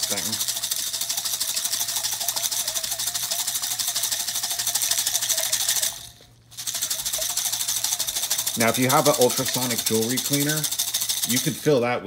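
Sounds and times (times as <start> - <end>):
metal pieces rattling in a jar: 0.0 - 11.6.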